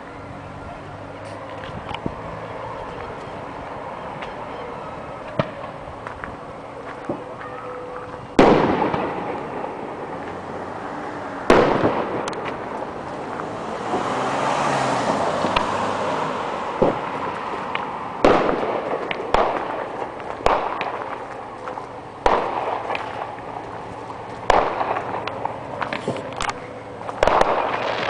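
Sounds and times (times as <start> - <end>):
fireworks bursting: 1.2 - 14.2, 16.5 - 28.0.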